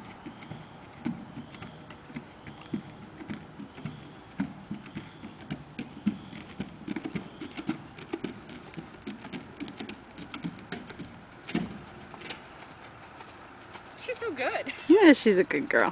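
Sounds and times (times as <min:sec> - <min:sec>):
horse hooves clopping on bridge: 0:00.0 - 0:15.9.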